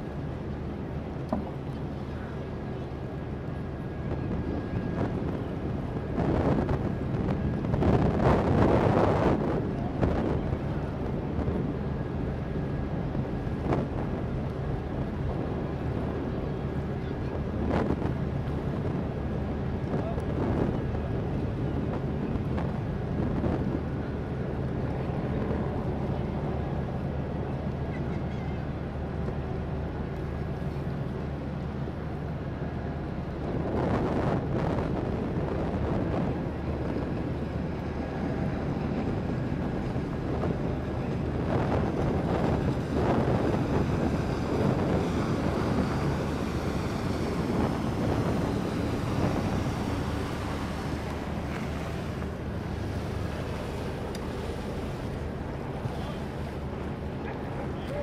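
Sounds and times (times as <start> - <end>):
boat engine droning: 0.0 - 58.0
water wash: 0.0 - 58.0
wind buffeting microphone: 0.0 - 58.0.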